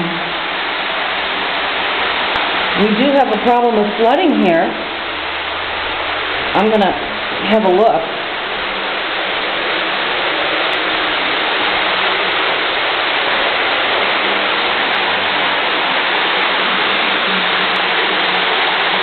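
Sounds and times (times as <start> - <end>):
floodwater rushing into basement: 0.0 - 19.0.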